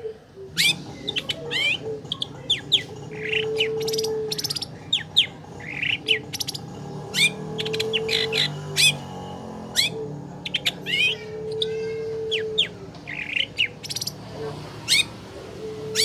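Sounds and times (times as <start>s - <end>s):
bird song with whistles and trills: 0.0s - 9.1s, 9.8s - 14.2s.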